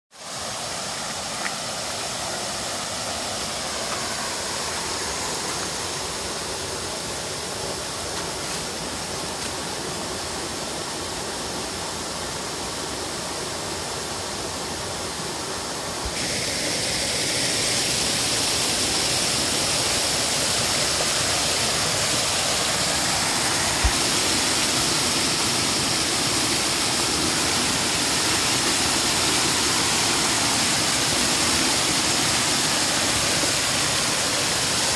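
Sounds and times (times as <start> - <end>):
small waterfall splashing: 0.1 - 34.9.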